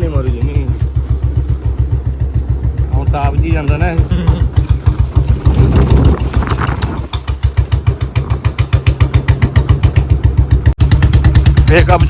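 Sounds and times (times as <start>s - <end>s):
motorcycle engine thumping: 0.0s - 12.0s.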